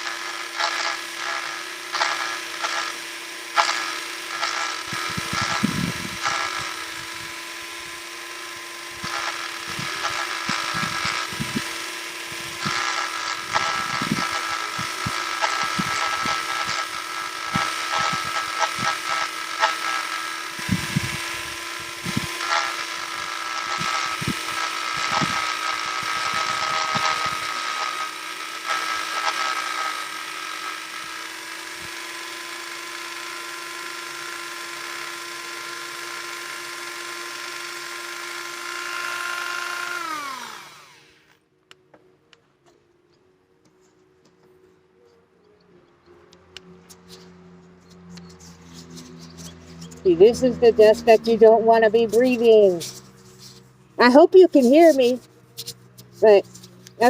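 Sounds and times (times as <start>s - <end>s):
power sander humming: 0.0s - 41.4s, 46.5s - 57.0s
sander pad rasping: 0.0s - 41.4s, 46.4s - 57.0s.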